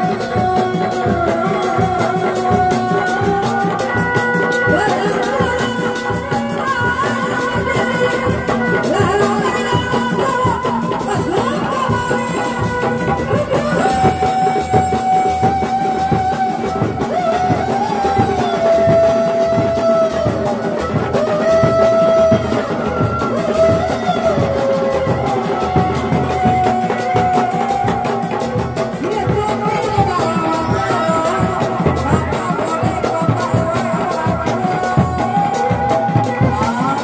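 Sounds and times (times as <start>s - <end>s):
hand drums beating rhythm: 0.0s - 37.0s
shawm playing wavering melody: 0.0s - 37.0s.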